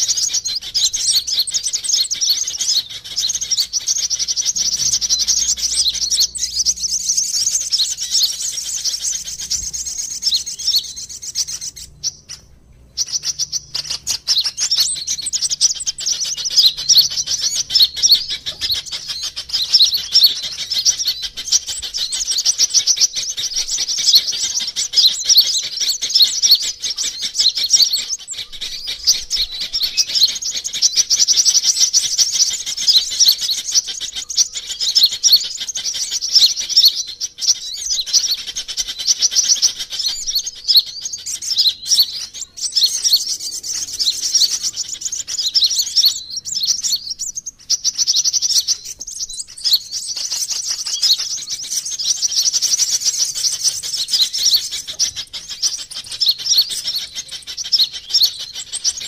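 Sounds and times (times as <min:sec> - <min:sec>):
sunbirds twittering: 0:00.0 - 0:59.0.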